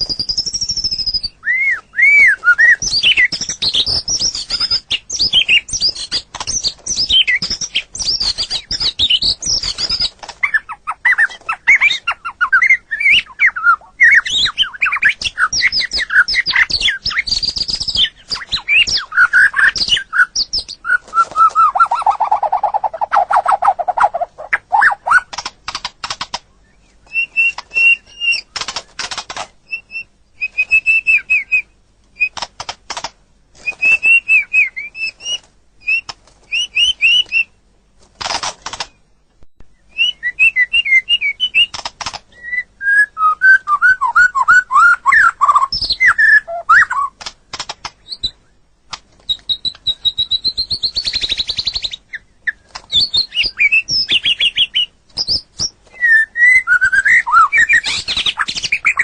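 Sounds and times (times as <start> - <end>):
songbird singing varied song: 0.0 - 25.4, 26.5 - 32.4, 33.6 - 37.6, 38.8 - 47.2, 49.2 - 59.0.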